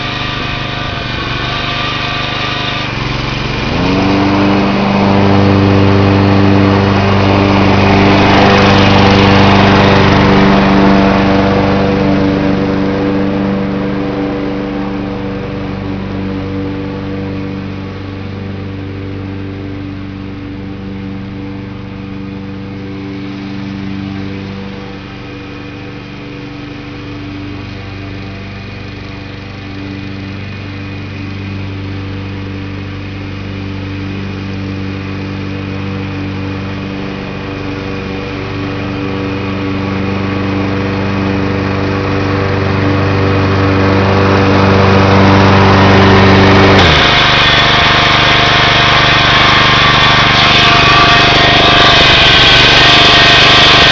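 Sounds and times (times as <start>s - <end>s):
lawn mower engine running: 0.0s - 53.9s.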